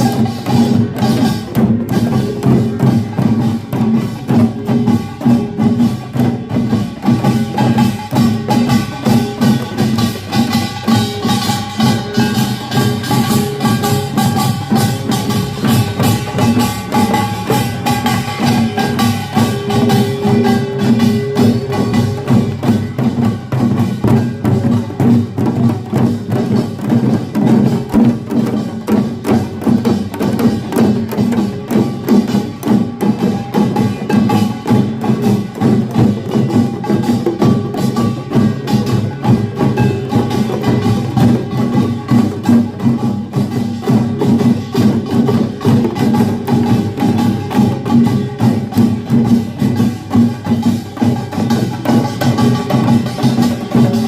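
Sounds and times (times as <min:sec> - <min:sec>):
gongs and drums playing rhythm: 0:00.0 - 0:54.0.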